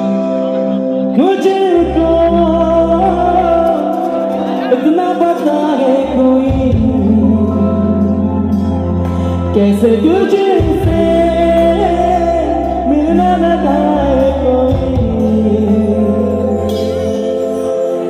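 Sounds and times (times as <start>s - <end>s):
bass: 0.0s - 18.0s
keyboard chords: 0.0s - 18.0s
man singing: 0.0s - 18.0s.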